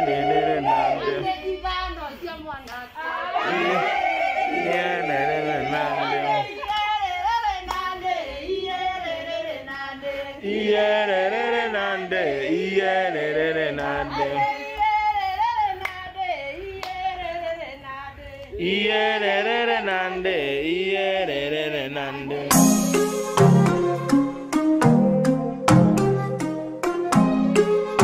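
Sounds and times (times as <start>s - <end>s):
women singing in chorus: 0.0s - 22.8s.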